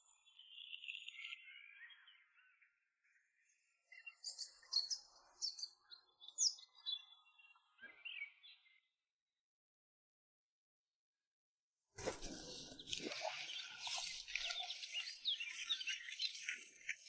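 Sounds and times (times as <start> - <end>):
songbirds chirping: 0.1 - 9.0, 12.0 - 17.0.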